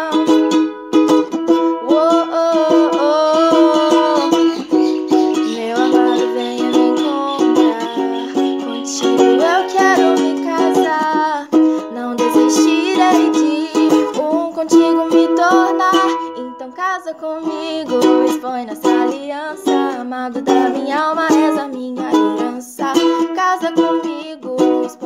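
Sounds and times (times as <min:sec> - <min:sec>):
ukulele strumming chords: 0:00.0 - 0:25.0
woman singing wordless melody: 0:00.0 - 0:25.0.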